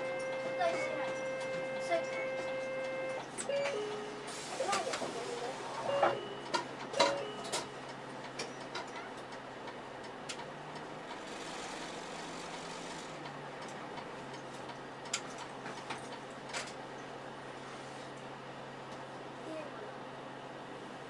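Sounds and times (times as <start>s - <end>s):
bus engine humming: 0.0s - 21.0s.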